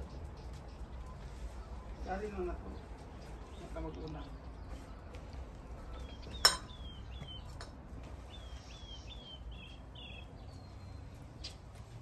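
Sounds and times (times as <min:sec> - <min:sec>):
small bird chirping: 0:00.0 - 0:07.6, 0:08.2 - 0:11.7
low outdoor hum: 0:00.0 - 0:12.0.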